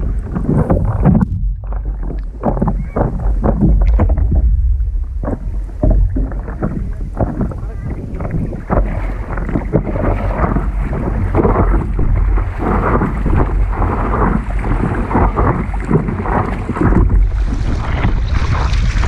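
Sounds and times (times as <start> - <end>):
water splashing against paddleboard: 0.0 - 19.0
wind buffeting microphone: 0.0 - 19.0.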